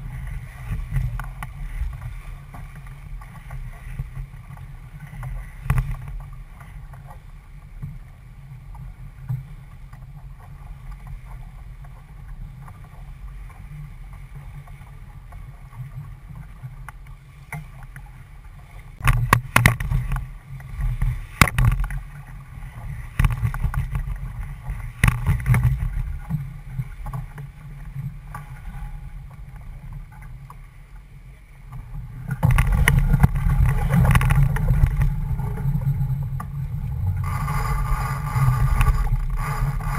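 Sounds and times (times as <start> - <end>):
water rushing past hull: 0.0 - 39.9
wind rumbling on microphone: 0.0 - 39.9.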